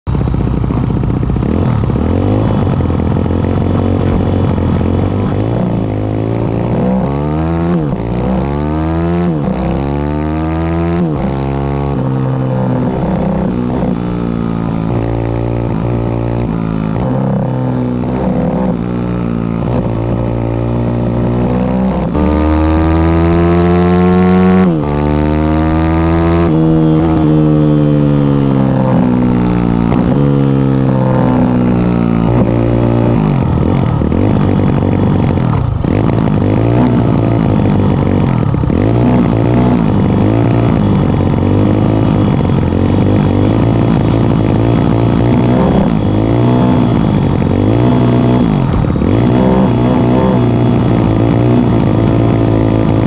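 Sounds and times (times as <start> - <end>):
motorbike engine revving: 0.1 - 53.0.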